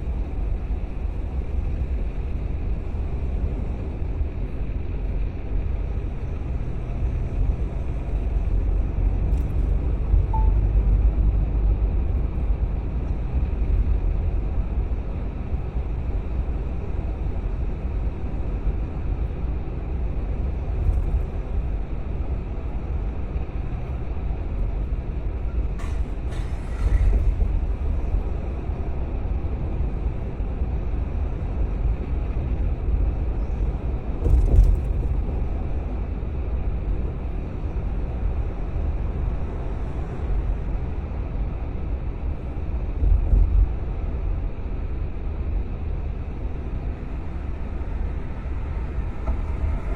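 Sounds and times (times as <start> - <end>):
car driving rumble: 0.0 - 49.9.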